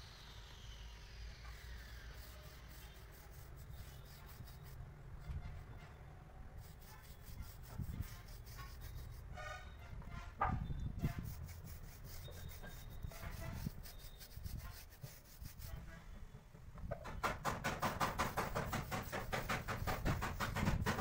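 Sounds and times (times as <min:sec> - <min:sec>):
paintbrush rubbing on rubber tyre: 0:01.4 - 0:16.0, 0:17.6 - 0:21.0.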